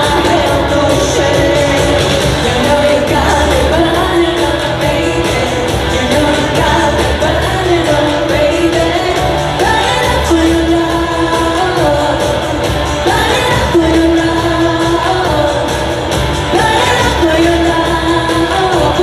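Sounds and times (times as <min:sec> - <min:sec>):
steady drum beat: 0:00.0 - 0:19.0
woman singing into microphone: 0:00.0 - 0:19.0.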